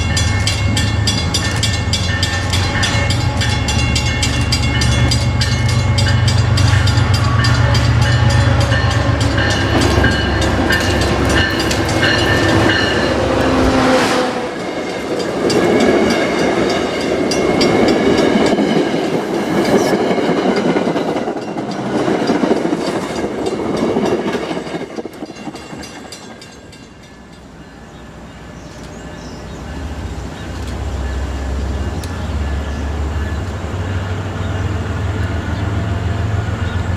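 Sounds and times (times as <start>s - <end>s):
rhythmic train wheel clicks: 0.0s - 13.8s, 14.5s - 36.9s
diesel locomotive engine rumbling: 0.0s - 36.9s.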